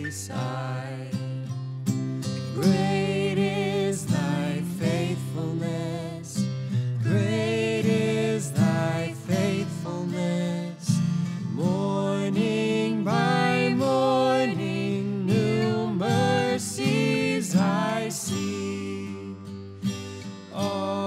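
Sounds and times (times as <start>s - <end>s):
christian music with guitar: 0.0s - 21.0s.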